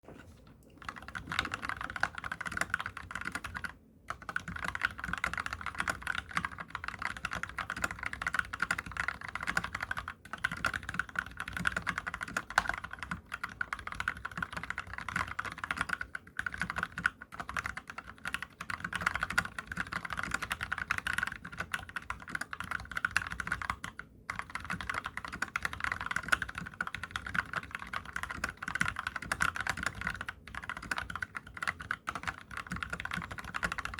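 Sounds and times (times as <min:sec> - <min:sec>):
fast typing on mechanical keyboard: 0:00.8 - 0:33.9.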